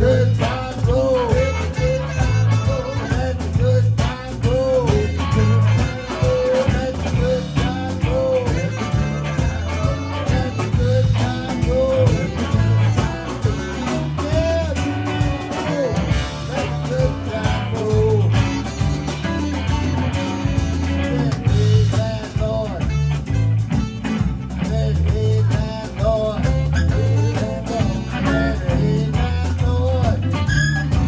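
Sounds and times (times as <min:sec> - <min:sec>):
bass line: 0:00.0 - 0:31.0
blues band playing: 0:00.0 - 0:31.0
lead guitar bending notes: 0:00.0 - 0:31.0.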